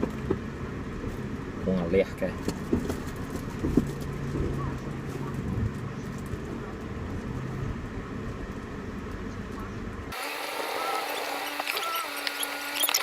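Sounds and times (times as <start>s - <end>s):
car road and engine rumble: 0.0s - 10.7s.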